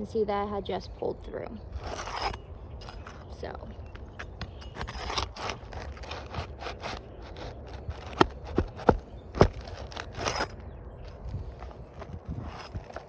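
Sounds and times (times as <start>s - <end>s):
metal tool scraping shingles: 1.7s - 13.0s.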